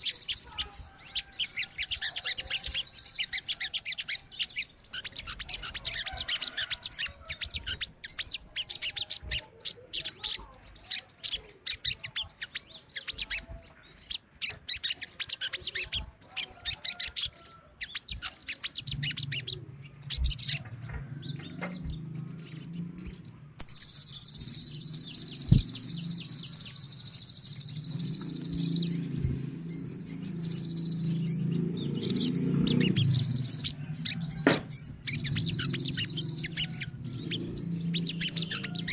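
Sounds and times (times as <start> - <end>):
sunbirds chirping and twittering: 0.0 - 38.9.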